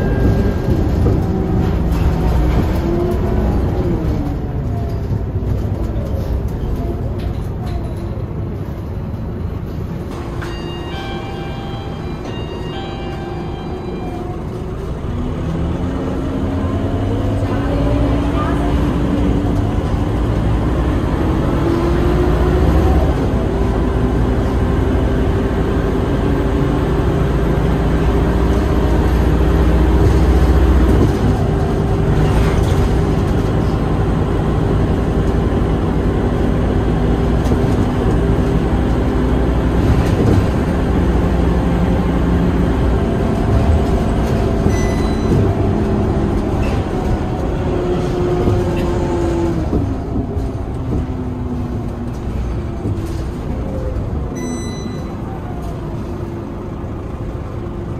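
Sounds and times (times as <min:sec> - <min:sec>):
bus engine whine from inside: 0:00.0 - 0:57.9.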